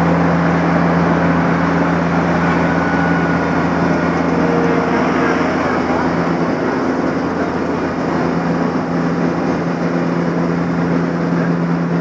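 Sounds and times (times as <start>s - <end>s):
diesel engine drone: 0.0s - 12.0s
road roller low hum: 0.0s - 12.0s.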